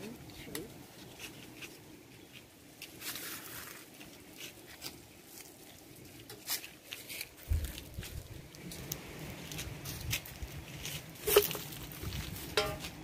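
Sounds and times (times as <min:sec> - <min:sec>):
light clicks and crackles: 0:00.0 - 0:13.0.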